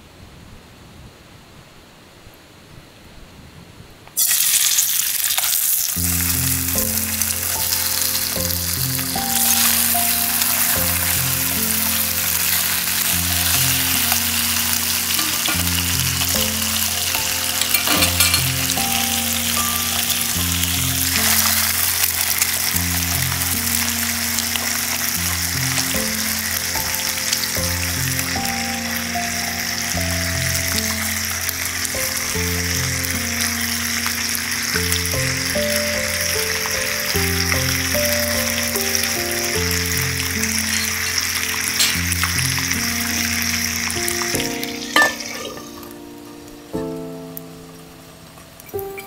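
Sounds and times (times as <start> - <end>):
meat sizzling in oil: 4.2 - 47.5
background music with low notes: 6.0 - 49.0.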